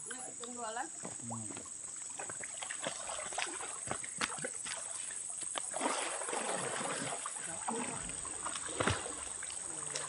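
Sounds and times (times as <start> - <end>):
people wading through water: 0.0 - 10.0
small splashes and knocks: 0.1 - 10.0.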